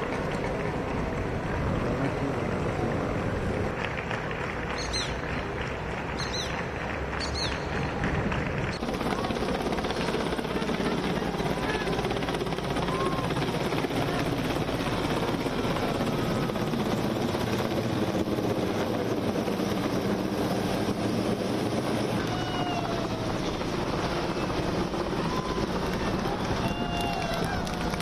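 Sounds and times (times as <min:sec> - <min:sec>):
helicopter flying overhead: 0:00.0 - 0:28.0.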